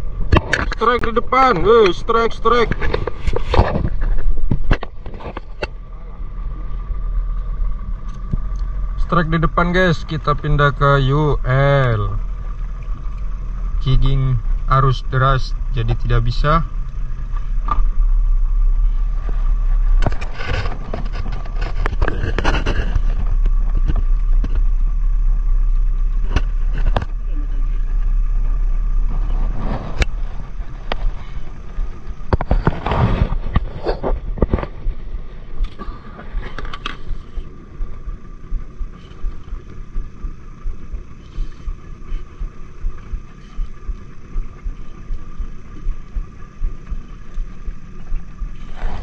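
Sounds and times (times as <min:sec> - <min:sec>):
boat engine rumble: 0:00.0 - 0:49.0.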